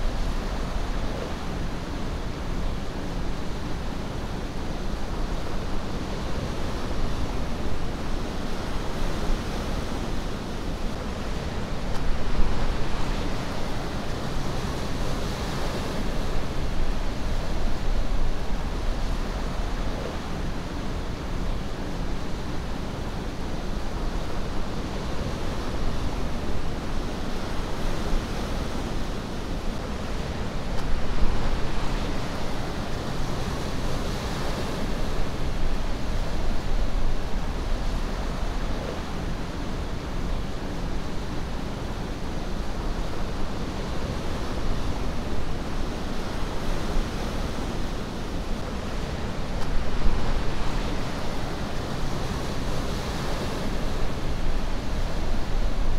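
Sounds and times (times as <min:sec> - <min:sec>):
ocean surf rushing: 0:00.0 - 0:55.9.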